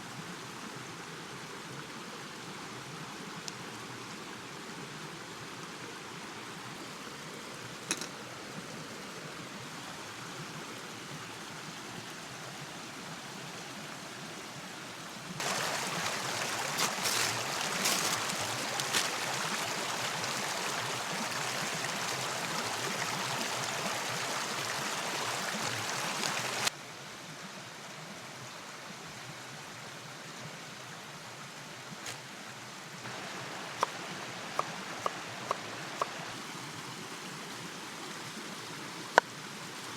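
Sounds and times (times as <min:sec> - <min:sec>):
rain and running water: 0:00.0 - 0:39.9.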